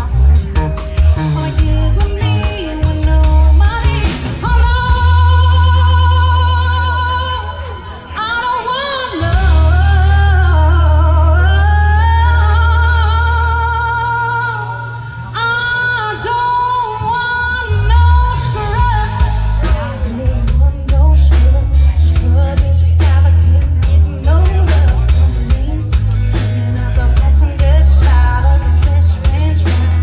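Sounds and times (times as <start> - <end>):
bass guitar: 0.0 - 8.1, 9.1 - 30.0
drums: 0.0 - 30.0
person singing with vibrato: 0.0 - 30.0.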